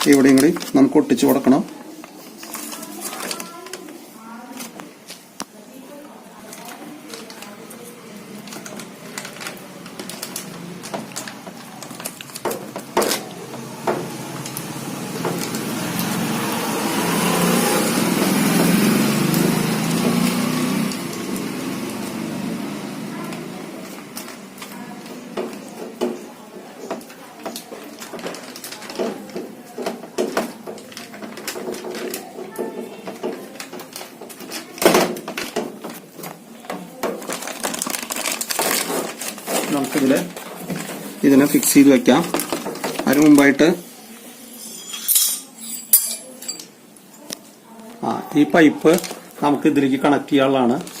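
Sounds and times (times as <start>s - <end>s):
crackles and clicks of handling: 0.0s - 16.6s, 19.2s - 44.3s, 45.1s - 48.1s, 48.8s - 49.5s.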